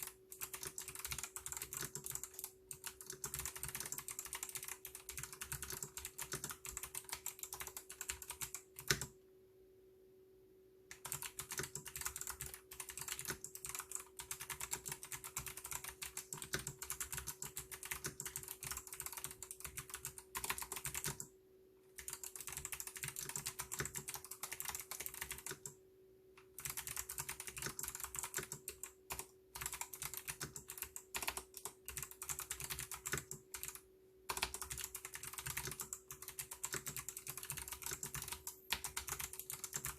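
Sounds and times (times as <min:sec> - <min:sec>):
clicky mechanical keyboard typing: 0:00.0 - 0:09.1, 0:10.9 - 0:21.3, 0:22.0 - 0:25.8, 0:26.5 - 0:39.9.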